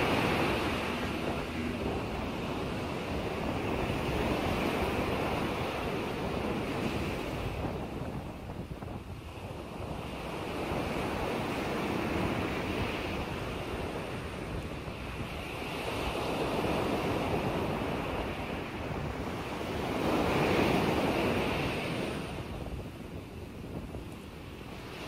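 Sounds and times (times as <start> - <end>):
lake waves washing in: 0.0 - 25.0
wind buffeting microphone: 0.0 - 25.0.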